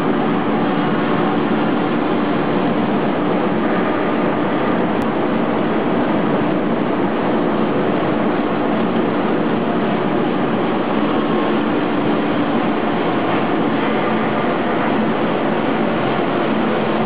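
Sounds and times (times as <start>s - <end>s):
machine drone: 0.0s - 17.0s.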